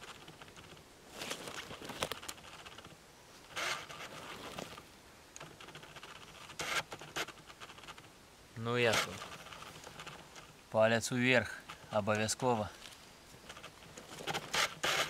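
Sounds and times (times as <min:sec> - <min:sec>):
antler rustling against jacket: 0:00.0 - 0:08.1, 0:08.7 - 0:10.7, 0:11.4 - 0:15.0.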